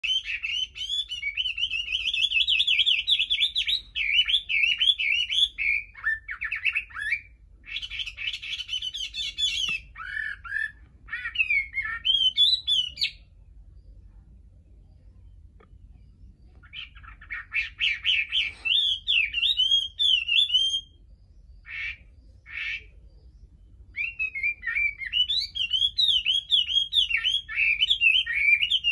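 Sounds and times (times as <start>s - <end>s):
bird singing warbled trills: 0.0s - 28.9s.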